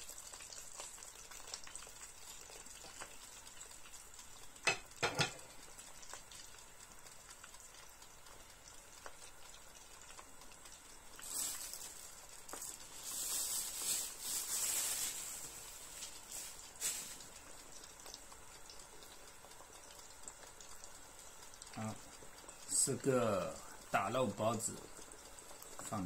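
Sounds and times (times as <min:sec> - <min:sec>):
buns frying in oil: 0:00.0 - 0:26.0.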